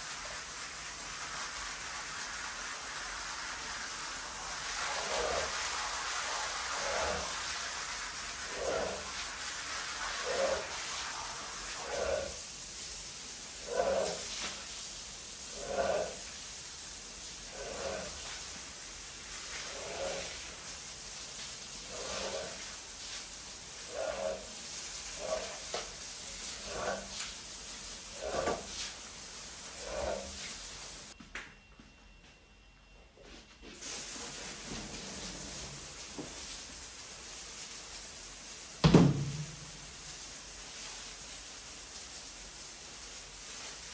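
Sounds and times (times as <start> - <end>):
spraying water hiss: 0.0 - 31.2, 33.8 - 43.9
squeegee swishing across wet rug: 0.0 - 31.2, 33.8 - 43.9.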